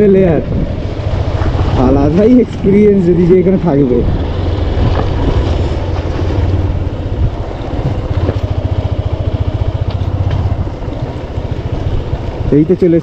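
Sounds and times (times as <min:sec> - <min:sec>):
motorcycle engine at low speed: 0:00.0 - 0:13.0.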